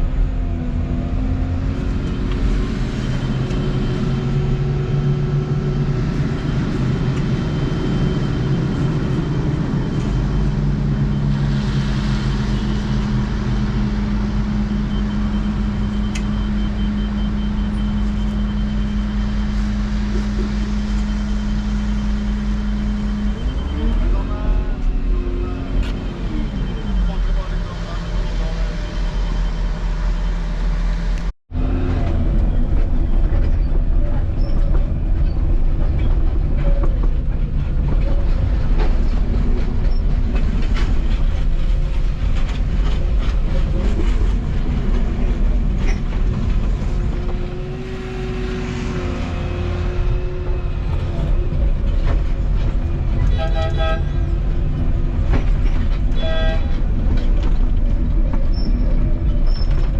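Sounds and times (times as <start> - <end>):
excavator engine and hydraulics: 0.0 - 59.9
held whine: 0.7 - 59.9.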